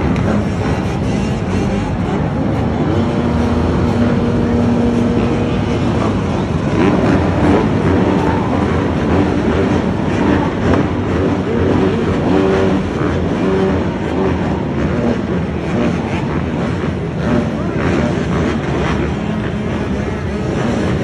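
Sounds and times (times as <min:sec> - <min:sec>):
dirt bike and quad bike engines: 0:00.0 - 0:21.0.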